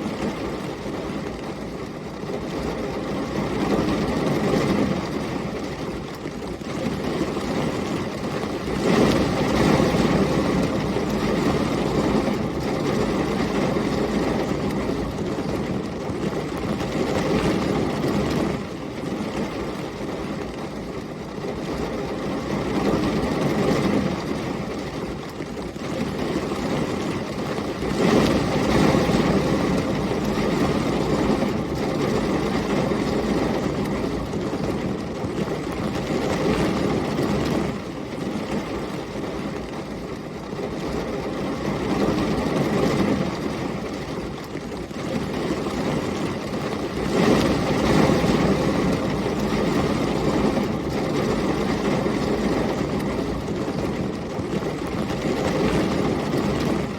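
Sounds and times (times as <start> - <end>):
heavy rain: 0.0 - 56.9
storm wind: 0.0 - 56.9.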